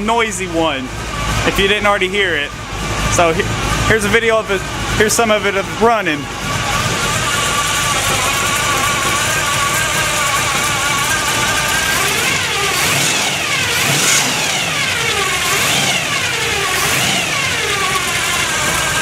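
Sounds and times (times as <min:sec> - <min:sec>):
car engine idling and revving: 0:00.0 - 0:19.0
timing gear whine: 0:00.0 - 0:19.0.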